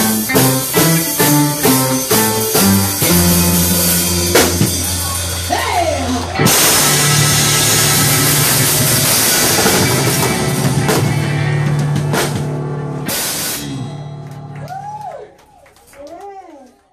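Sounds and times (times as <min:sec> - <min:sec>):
drum kit crashes and cymbals: 0:00.0 - 0:14.6
rock band playing: 0:00.0 - 0:15.2.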